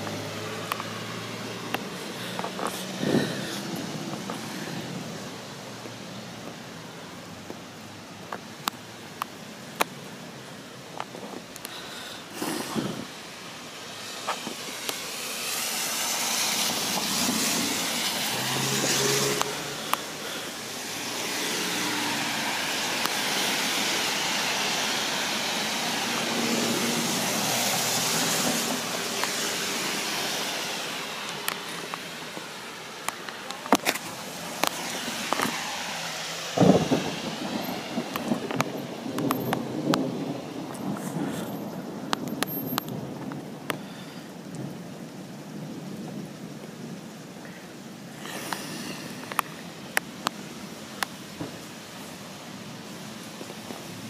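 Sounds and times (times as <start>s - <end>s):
tyres hissing on wet road: 0.0s - 54.0s.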